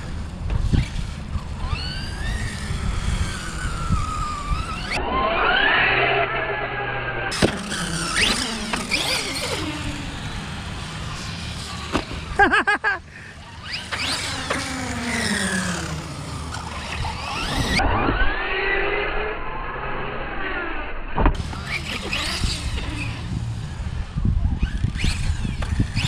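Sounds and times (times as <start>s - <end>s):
electric toy truck motors whining: 0.0s - 12.5s, 13.2s - 26.0s.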